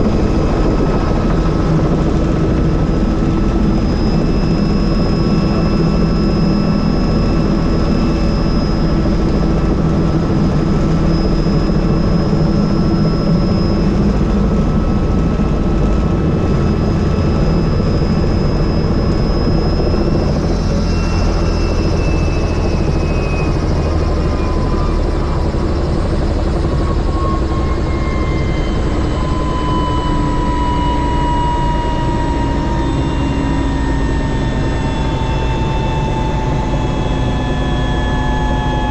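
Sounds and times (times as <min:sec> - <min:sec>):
helicopter turbine whine and rotor: 0:00.0 - 0:38.9.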